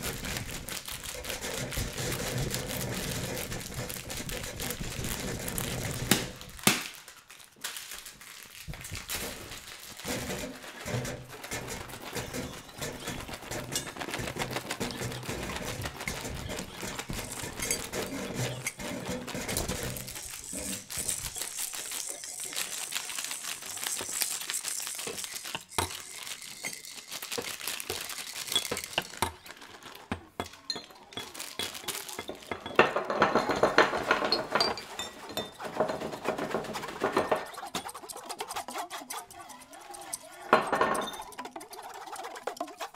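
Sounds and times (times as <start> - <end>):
percussion on household objects: 0.0 - 6.9, 8.7 - 42.9.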